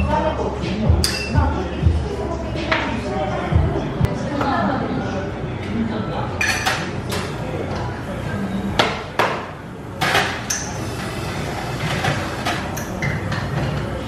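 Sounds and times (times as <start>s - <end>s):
cafe background noise: 0.0s - 14.0s.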